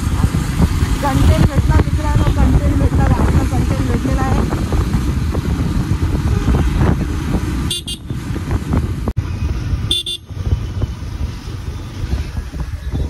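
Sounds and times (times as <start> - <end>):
wind and motorcycle engine rumble: 0.0 - 13.0.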